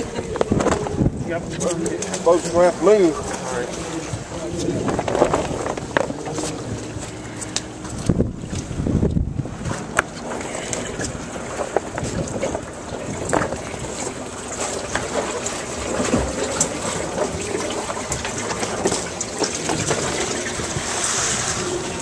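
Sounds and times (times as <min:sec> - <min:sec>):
water noise: 0:00.0 - 0:22.0
wind: 0:00.0 - 0:22.0.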